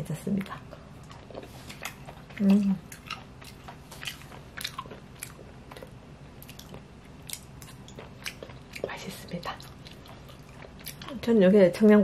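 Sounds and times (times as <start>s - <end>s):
person chewing: 0.6s - 11.2s.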